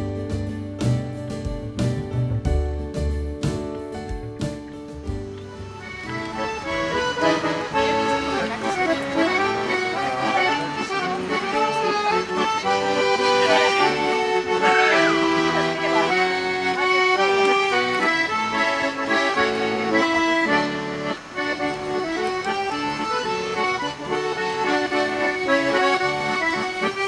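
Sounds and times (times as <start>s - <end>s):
accordion playing folk dance tune: 3.0s - 27.0s.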